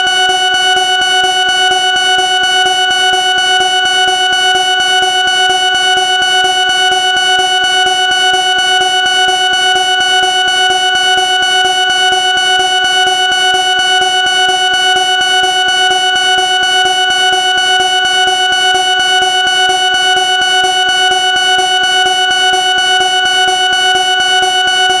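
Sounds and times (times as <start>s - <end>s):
smoke alarm tone: 0.0s - 25.0s.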